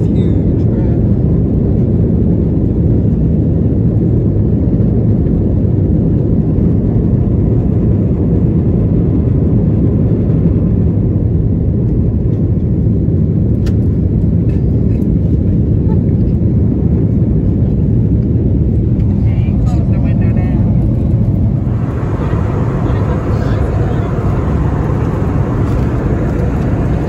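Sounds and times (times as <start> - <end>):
jet airliner cabin engine noise: 0.0 - 27.0.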